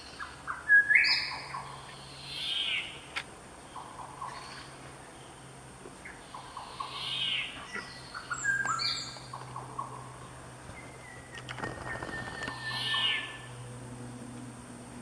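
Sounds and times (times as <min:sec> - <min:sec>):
birds singing: 0:00.0 - 0:13.7
faint low hum: 0:00.0 - 0:15.0.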